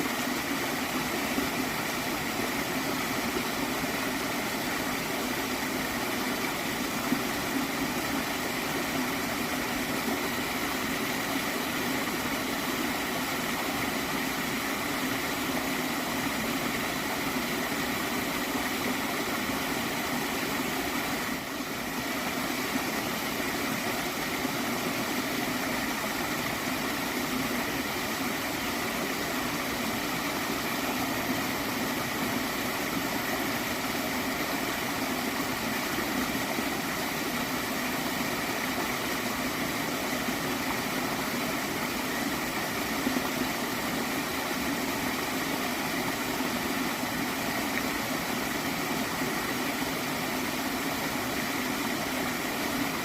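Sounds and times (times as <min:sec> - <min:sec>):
small stream gurgling: 0:00.0 - 0:53.0.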